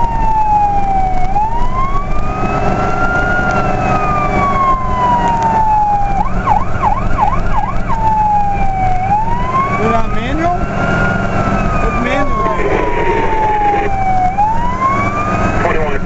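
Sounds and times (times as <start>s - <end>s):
fire truck siren: 0.0s - 16.0s
truck engine and road noise: 0.0s - 16.0s.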